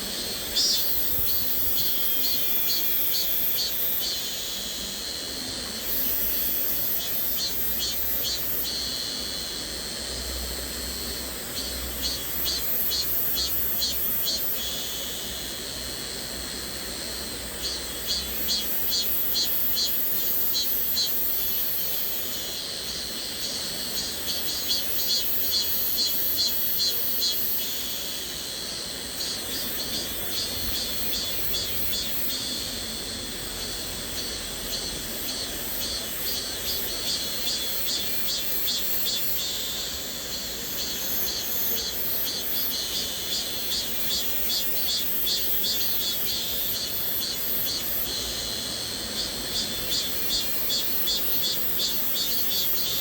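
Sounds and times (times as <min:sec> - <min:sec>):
cicadas singing: 0:00.0 - 0:53.0.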